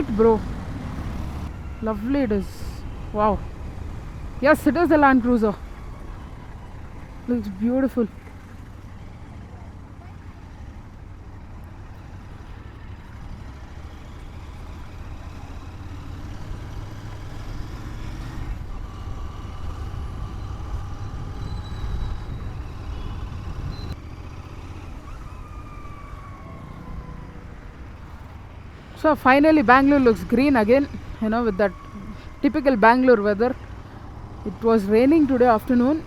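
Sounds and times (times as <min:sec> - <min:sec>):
motorcycle engine and road rumble: 0:00.0 - 0:36.0.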